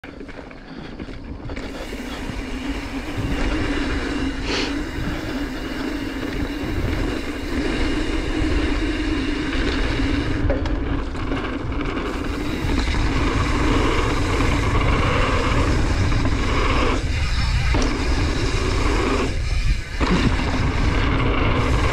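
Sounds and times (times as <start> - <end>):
bike rolling on dirt trail: 0.0 - 21.9.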